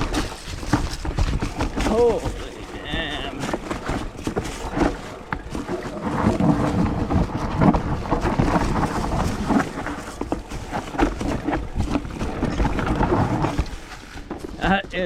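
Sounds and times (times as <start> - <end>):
bike knocking and rattling: 0.0 - 15.0
tyre noise on dirt: 0.0 - 15.0
wind on microphone: 0.0 - 15.0.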